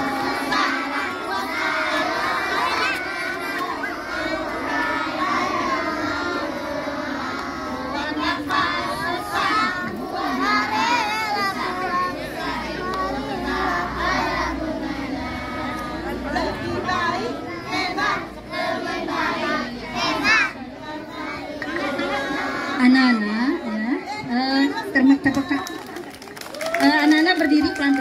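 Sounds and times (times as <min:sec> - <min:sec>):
young children singing together: 0:00.0 - 0:22.9.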